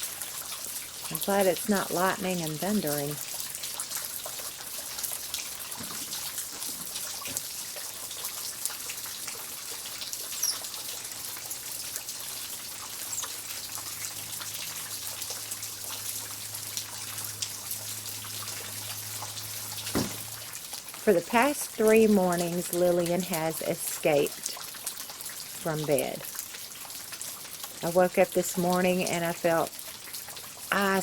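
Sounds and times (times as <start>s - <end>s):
drops dripping and splashing: 0.0s - 31.0s
rain falling: 0.0s - 31.0s.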